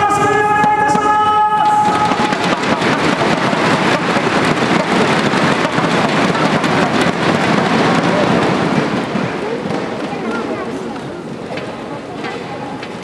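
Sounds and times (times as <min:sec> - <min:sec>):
crowd beating thundersticks: 0:00.0 - 0:13.0.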